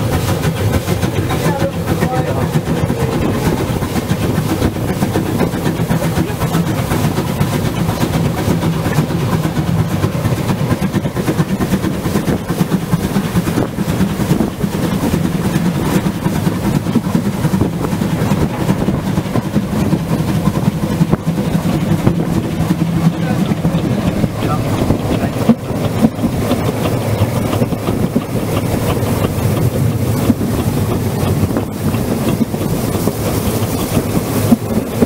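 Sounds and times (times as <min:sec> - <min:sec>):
steam locomotive running: 0:00.0 - 0:35.0.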